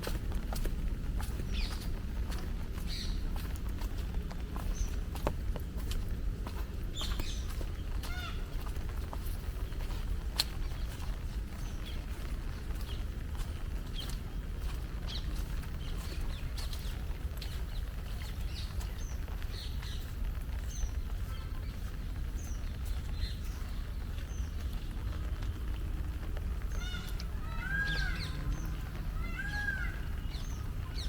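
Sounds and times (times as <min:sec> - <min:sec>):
birds chirping: 0:01.2 - 0:05.4, 0:06.5 - 0:31.0.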